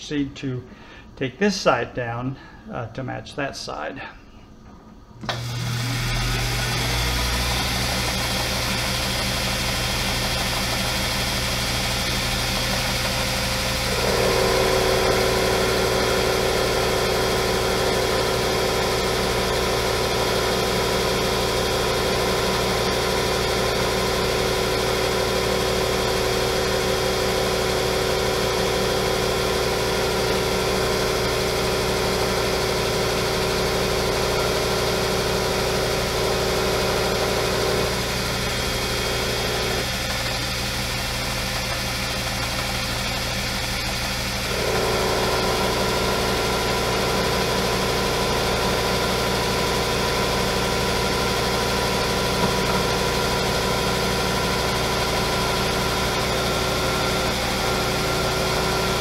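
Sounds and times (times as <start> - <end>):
lathe cutting whine: 5.2 - 59.0
lathe motor hum: 5.2 - 59.0.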